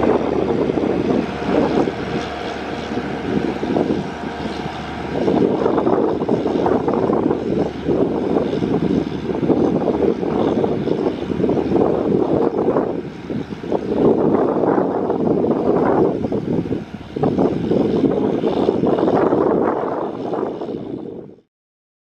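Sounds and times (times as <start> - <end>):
diesel locomotive rumble: 0.0 - 21.4.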